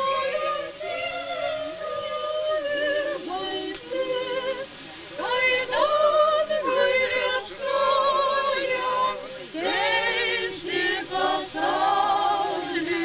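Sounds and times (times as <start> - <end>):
choir singing unaccompanied: 0.0 - 13.0.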